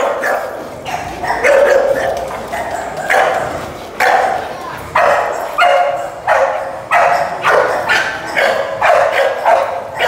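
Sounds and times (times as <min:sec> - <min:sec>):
dog barking loudly: 0:00.0 - 0:10.0.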